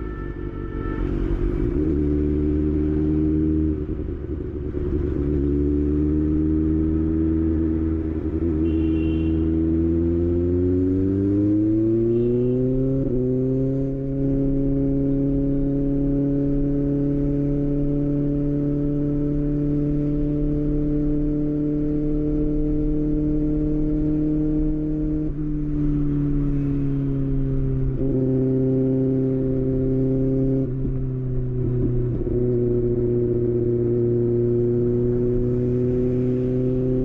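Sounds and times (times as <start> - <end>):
motorcycle engine revving: 1.2 - 37.0.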